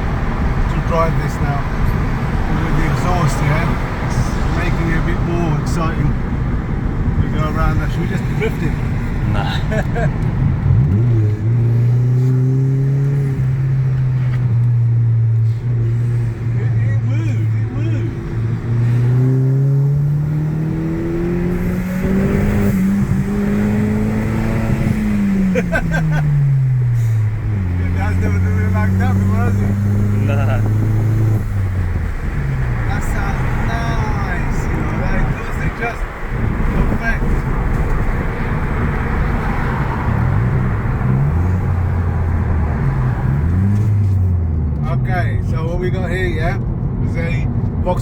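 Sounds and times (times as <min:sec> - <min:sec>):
car engine accelerating hard: 0:00.0 - 0:48.0
road and tyre noise: 0:00.0 - 0:48.0.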